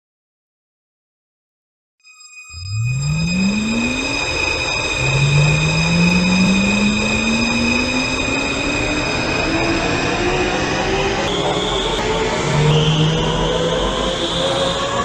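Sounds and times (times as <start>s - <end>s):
steady high-pitched tone: 2.2s - 15.0s
train motor whining: 2.7s - 15.0s.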